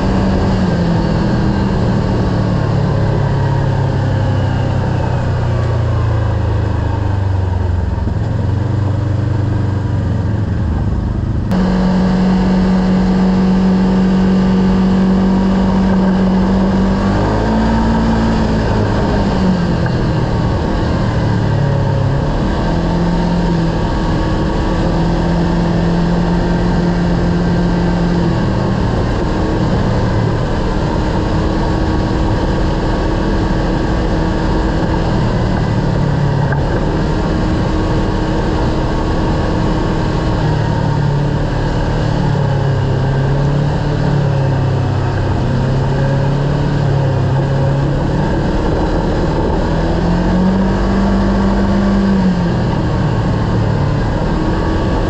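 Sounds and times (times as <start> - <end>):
driving noise rush: 0.0 - 55.0
vehicle engine running: 0.0 - 55.0.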